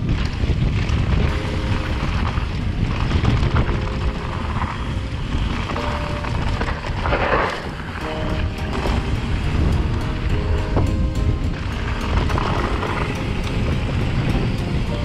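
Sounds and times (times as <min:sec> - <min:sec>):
mountain bike rumbling on gravel: 0:00.0 - 0:15.0
wind buffeting microphone: 0:00.0 - 0:15.0.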